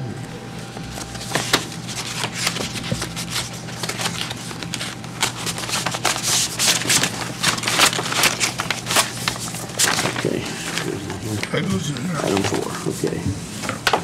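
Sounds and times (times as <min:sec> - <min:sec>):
paper rustling: 0:00.7 - 0:14.0.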